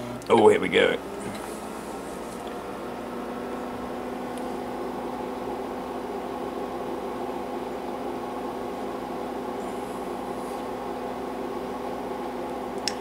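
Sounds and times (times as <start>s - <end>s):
computer fans droning: 0.0s - 13.0s.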